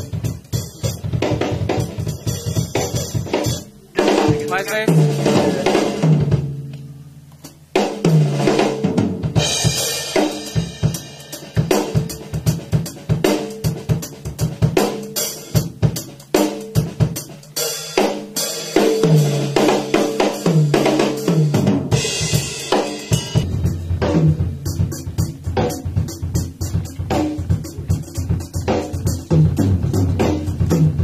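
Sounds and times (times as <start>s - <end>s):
drum solo: 0.0s - 31.0s.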